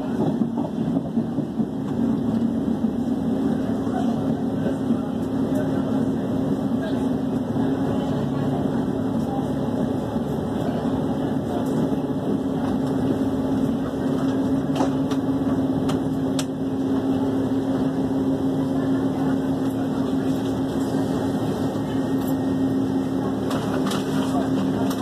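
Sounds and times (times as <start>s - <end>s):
train running hum: 0.0s - 25.0s.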